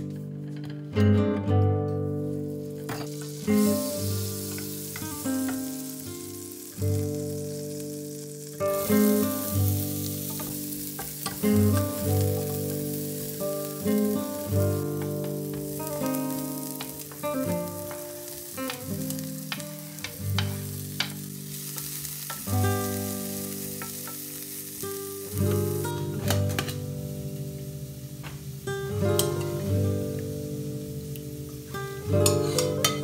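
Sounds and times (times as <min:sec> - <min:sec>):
plucked guitar-like music: 0:00.0 - 0:33.0
vegetables sizzling in butter: 0:02.0 - 0:33.0.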